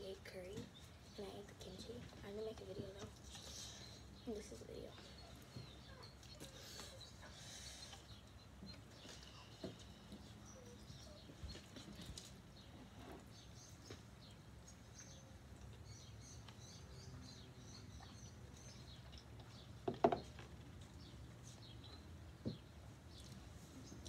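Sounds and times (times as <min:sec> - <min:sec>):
faint chewing: 0:02.0 - 0:24.0.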